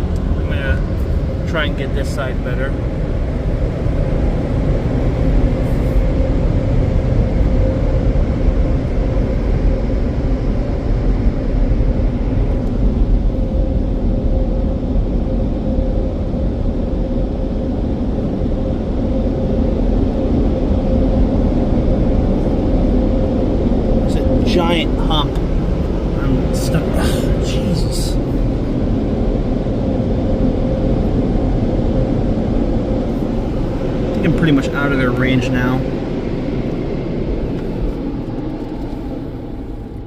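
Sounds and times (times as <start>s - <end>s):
blower dryers rushing air: 0.0s - 40.0s
constant hum: 0.0s - 40.0s.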